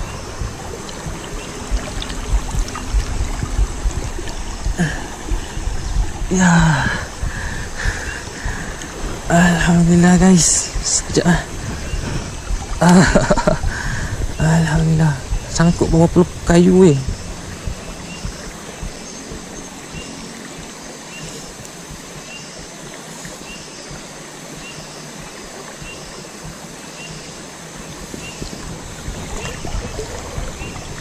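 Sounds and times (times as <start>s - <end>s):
river current rippling: 0.0s - 31.0s.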